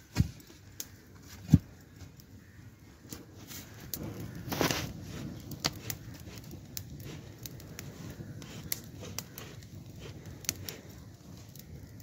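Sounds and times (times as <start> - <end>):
twig fire crackling and popping: 0.0 - 12.0.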